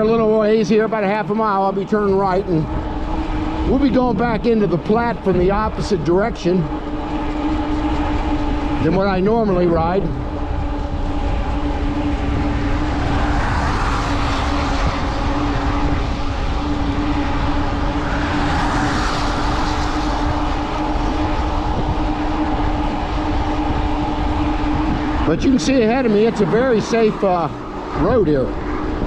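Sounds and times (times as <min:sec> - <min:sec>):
electric bike hum: 0:00.0 - 0:29.0
wind rumbling on microphone: 0:00.0 - 0:29.0.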